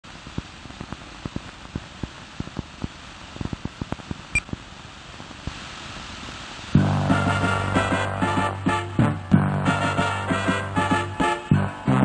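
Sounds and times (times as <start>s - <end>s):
steady hiss: 0.0s - 11.5s
film soundtrack crackle and pops: 0.0s - 12.0s.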